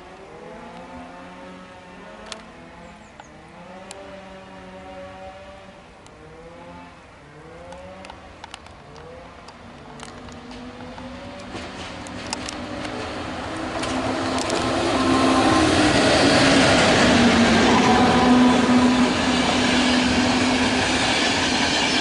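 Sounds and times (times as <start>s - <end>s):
electric locomotive humming: 0.0s - 22.0s.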